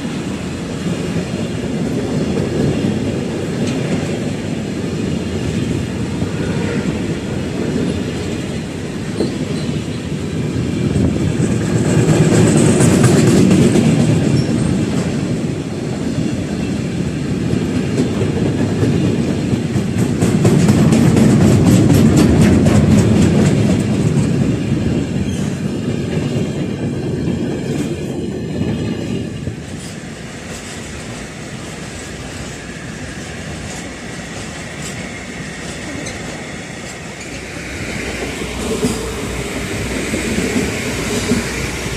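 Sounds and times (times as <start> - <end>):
train wheels rumbling on rail: 0.0 - 41.9
wheels clicking over rail joints: 7.5 - 41.9.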